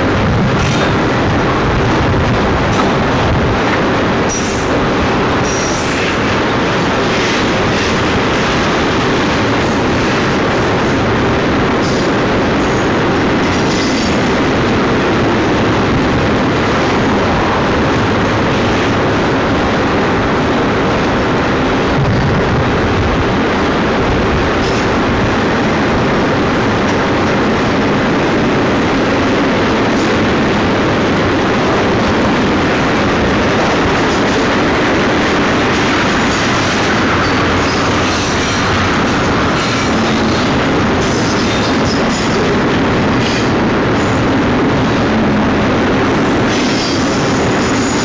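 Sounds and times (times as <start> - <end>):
steel wheels rumbling on rail: 0.0 - 48.0.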